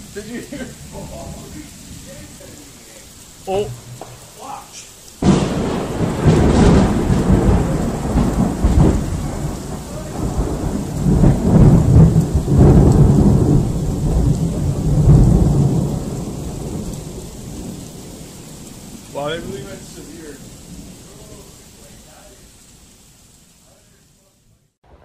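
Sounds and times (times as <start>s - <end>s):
loud rolling thunder: 0.0s - 22.6s
steady rain: 0.0s - 25.0s.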